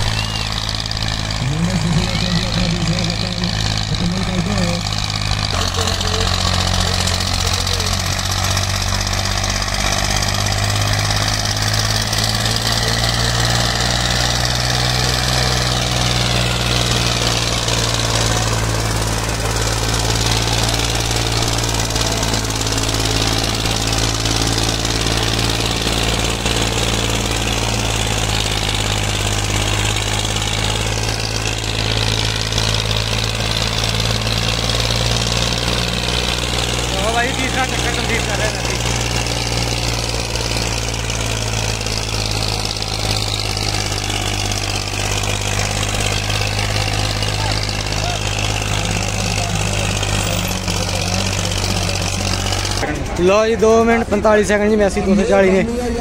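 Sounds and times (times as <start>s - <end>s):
tractor diesel engine clattering: 0.0s - 56.0s.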